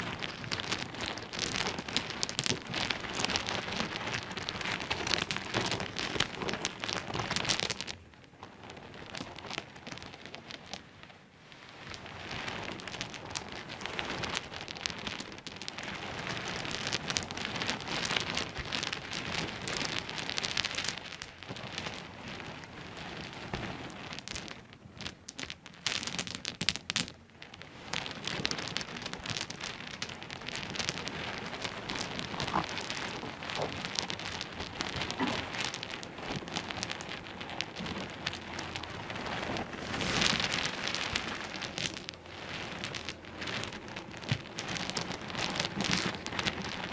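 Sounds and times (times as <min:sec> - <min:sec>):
pebbles clicking and clattering: 0:00.0 - 0:08.0, 0:08.6 - 0:10.9, 0:11.8 - 0:46.9.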